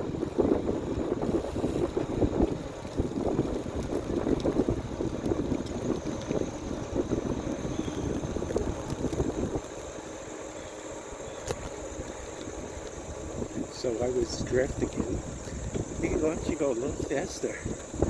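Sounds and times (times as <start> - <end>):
wind buffeting microphone: 0.0 - 10.2, 11.3 - 18.0.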